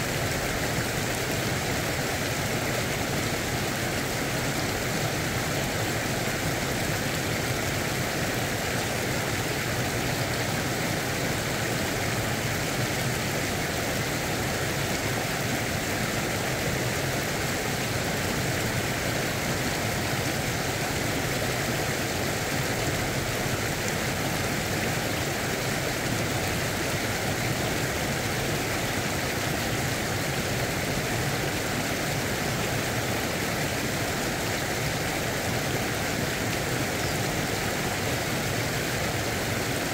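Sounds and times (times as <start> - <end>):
stream water rushing over rapids: 0.0 - 39.9.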